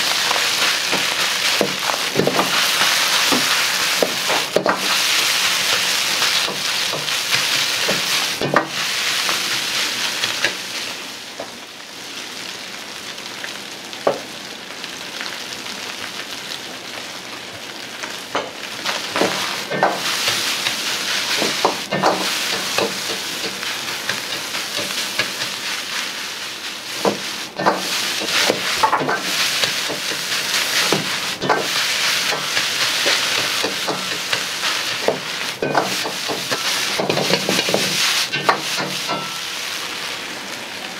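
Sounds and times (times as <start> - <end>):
rice sizzling in a wok: 0.0 - 40.9.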